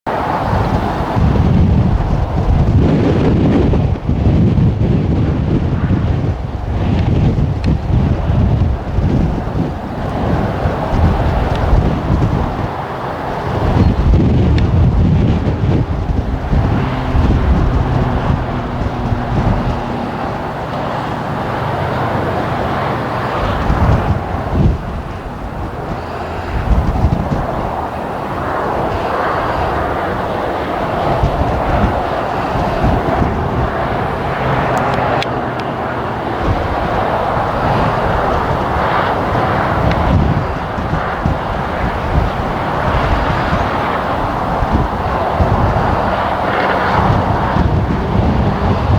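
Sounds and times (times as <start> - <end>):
jet engine roar: 0.1 - 48.9
wind buffeting microphone: 0.1 - 48.9.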